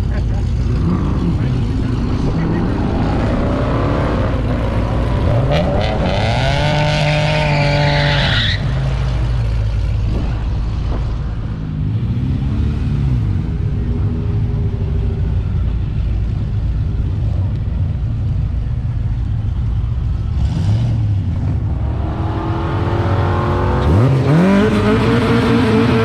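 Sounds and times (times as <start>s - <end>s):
steady engine rumble: 0.0s - 25.0s
drag car engine revving: 0.0s - 26.0s.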